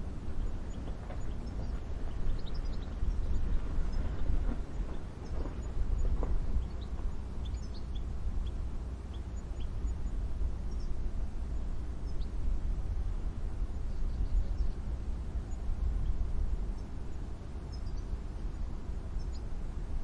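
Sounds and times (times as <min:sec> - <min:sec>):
small birds chirping: 0:00.0 - 0:12.5, 0:13.6 - 0:19.6
steady low rumble: 0:00.0 - 0:20.0.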